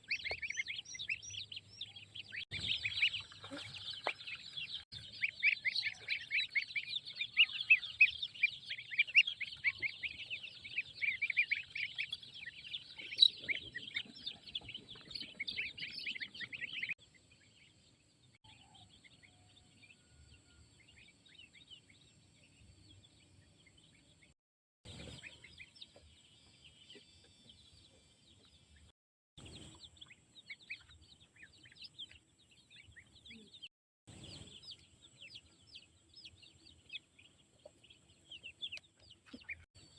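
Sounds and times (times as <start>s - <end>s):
chickens chirping: 0.0s - 39.9s.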